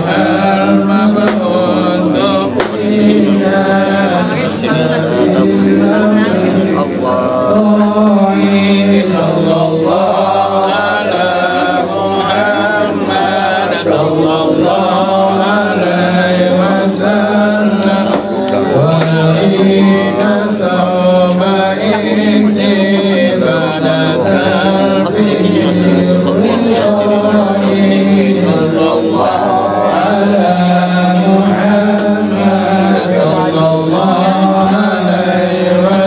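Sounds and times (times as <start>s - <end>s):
group of voices chanting: 0.0s - 36.0s.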